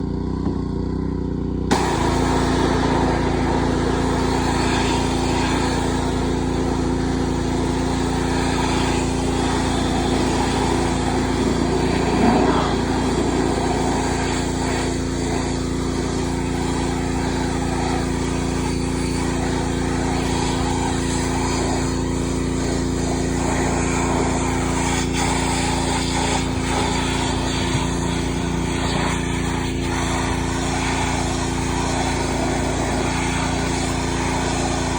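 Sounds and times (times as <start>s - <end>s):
pressure washer motor: 0.0s - 34.9s
water jet hissing: 1.7s - 34.9s.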